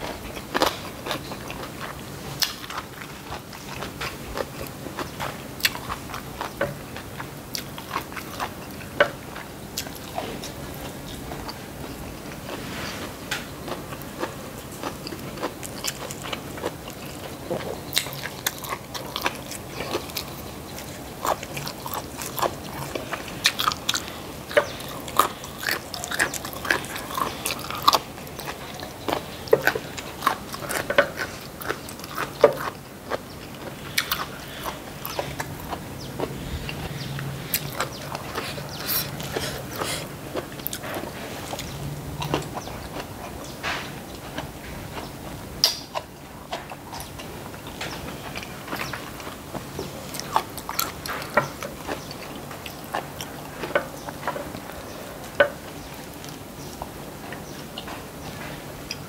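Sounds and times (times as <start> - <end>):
crunchy chewing of food: 0.0 - 59.0.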